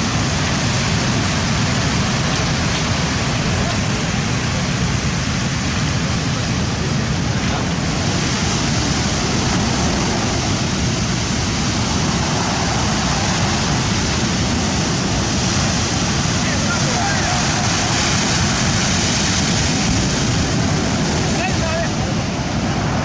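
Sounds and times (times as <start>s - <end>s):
surf washing: 0.0s - 23.0s
wind rumbling on microphone: 0.0s - 23.0s.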